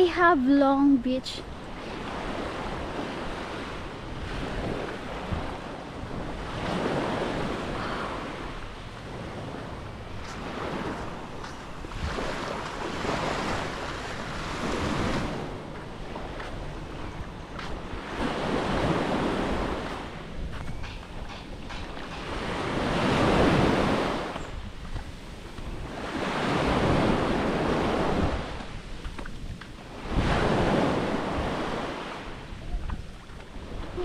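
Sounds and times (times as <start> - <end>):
wind buffeting microphone: 0.0 - 34.0
small waves washing onto sand: 1.4 - 34.0.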